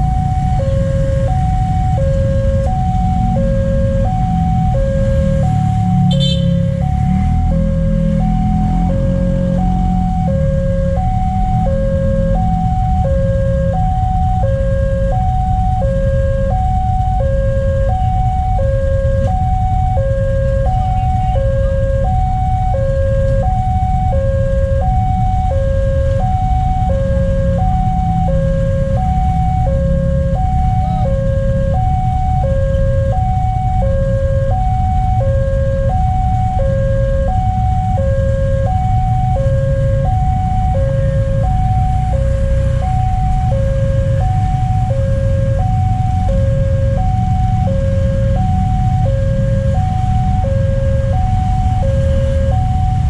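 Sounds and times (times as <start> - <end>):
level crossing two-tone alarm: 0.0 - 53.0
road traffic engine rumble: 0.0 - 53.0.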